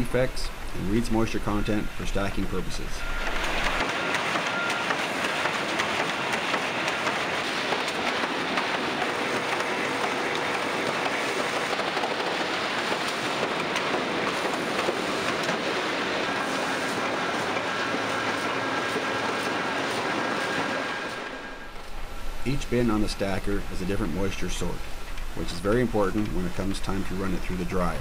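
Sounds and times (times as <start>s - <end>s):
conveyor machinery running: 0.0s - 28.0s.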